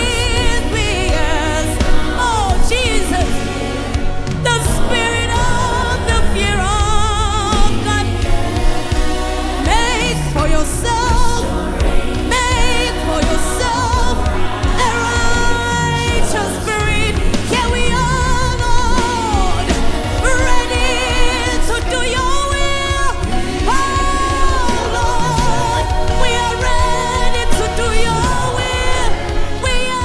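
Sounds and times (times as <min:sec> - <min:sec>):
musical accompaniment: 0:00.0 - 0:30.0.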